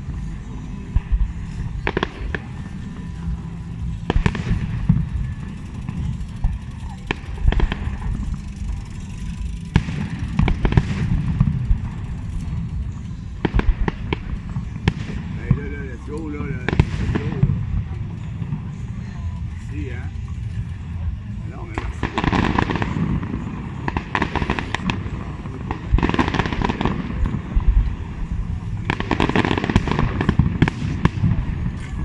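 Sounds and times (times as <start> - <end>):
low rumble: 0.0 - 32.0
firework shells bursting: 1.0 - 32.0.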